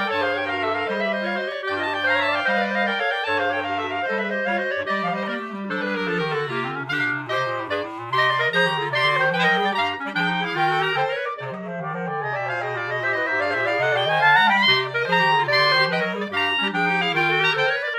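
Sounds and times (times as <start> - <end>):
clarinet quartet playing: 0.0 - 17.9.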